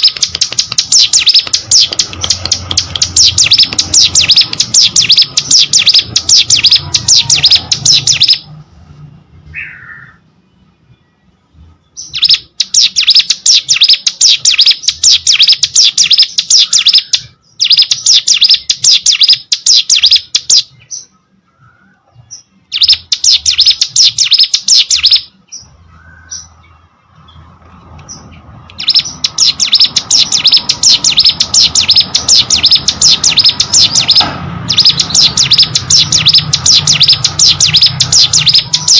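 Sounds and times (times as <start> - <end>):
soft bird calls: 0.0 - 8.5, 9.5 - 38.9
bird singing rapid high notes: 0.0 - 8.6, 9.4 - 38.9.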